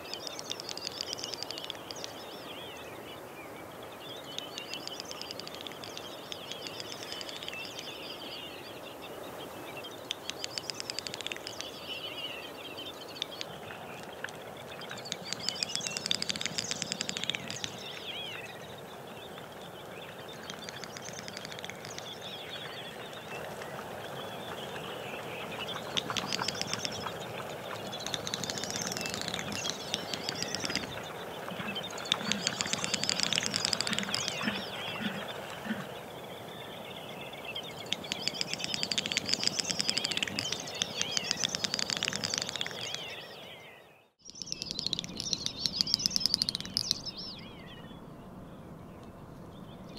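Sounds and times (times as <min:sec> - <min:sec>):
bird rapid clicking and twittering: 0:00.0 - 0:03.1, 0:04.0 - 0:08.6, 0:09.7 - 0:43.6, 0:44.2 - 0:47.8.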